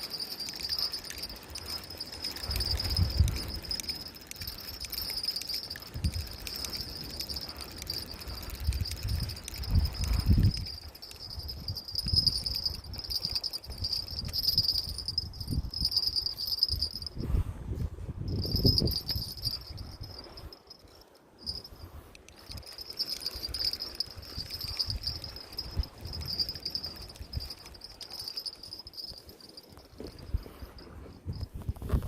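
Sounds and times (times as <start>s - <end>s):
night insects trilling: 0.0s - 17.1s, 18.4s - 30.8s.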